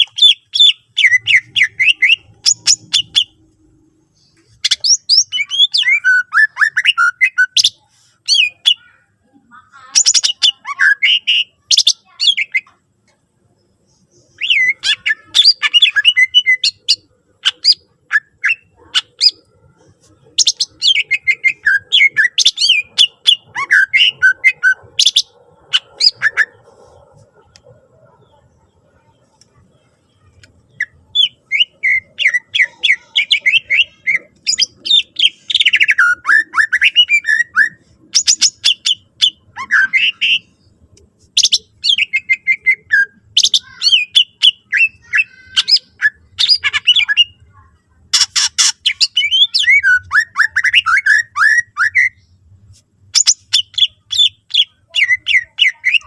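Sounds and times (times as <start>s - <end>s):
bird singing chirps and whistles: 0.0s - 3.4s, 4.2s - 8.9s, 10.0s - 12.8s, 14.1s - 19.5s, 20.4s - 27.0s, 30.1s - 40.7s, 41.4s - 47.5s, 48.1s - 52.4s, 53.1s - 56.0s.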